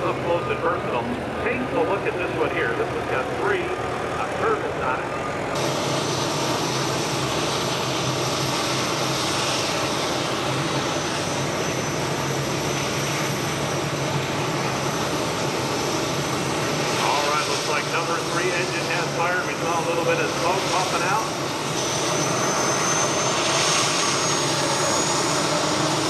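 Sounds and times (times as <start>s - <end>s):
tractor engine low drone: 0.0s - 26.0s.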